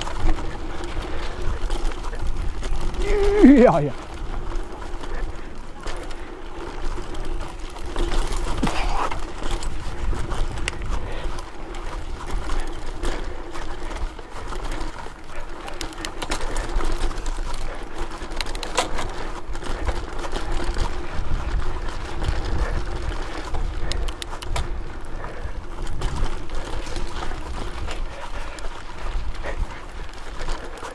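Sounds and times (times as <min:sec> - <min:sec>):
bike clicking and rattling: 0:00.0 - 0:30.9
wind rumbling on microphone: 0:00.0 - 0:30.9.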